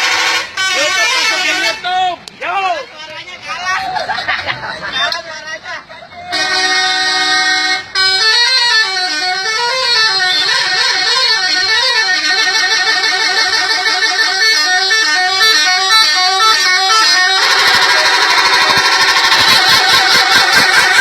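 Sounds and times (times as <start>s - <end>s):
multi-tone musical bus horn: 0.0s - 2.1s, 6.1s - 21.0s.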